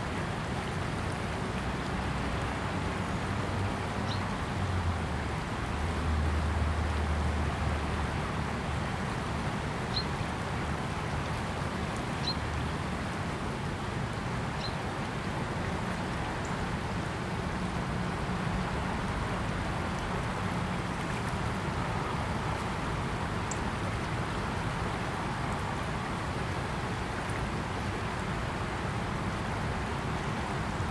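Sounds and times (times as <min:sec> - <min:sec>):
river rushing over riverbed: 0:00.0 - 0:30.9.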